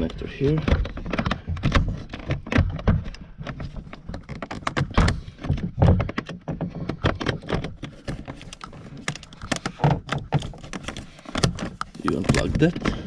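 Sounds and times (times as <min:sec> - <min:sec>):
plastic clicks and knocks: 0:00.0 - 0:13.0.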